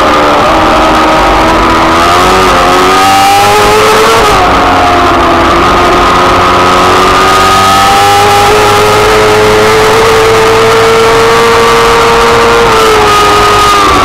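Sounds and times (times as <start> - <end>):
engine at high revs: 0.0 - 14.0
wind and road noise: 0.0 - 14.0.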